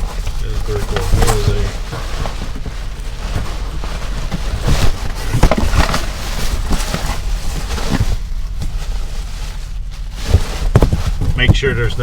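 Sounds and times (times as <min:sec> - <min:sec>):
packaging rustling and crinkling: 0:00.0 - 0:12.0
steady low hum: 0:00.0 - 0:12.0.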